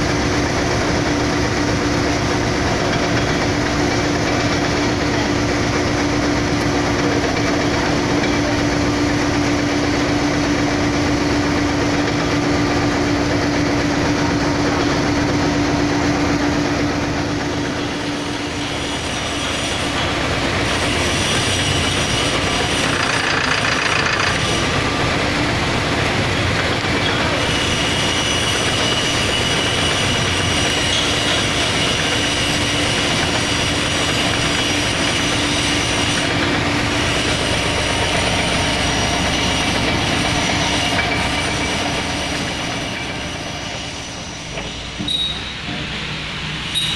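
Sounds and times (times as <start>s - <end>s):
machinery running: 0.0s - 46.9s.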